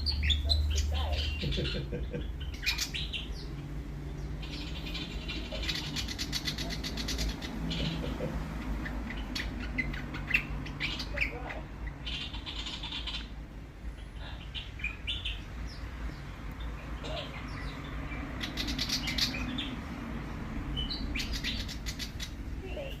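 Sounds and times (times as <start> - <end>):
bird chattering calls: 0.0 - 20.0, 20.8 - 23.0.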